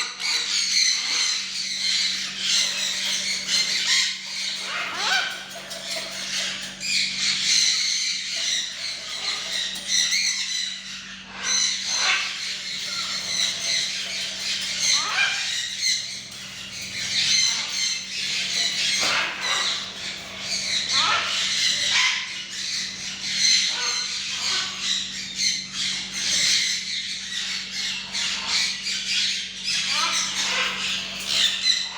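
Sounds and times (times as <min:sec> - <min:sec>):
macaw squawking: 0:00.0 - 0:31.9
low steady hum: 0:00.1 - 0:31.9.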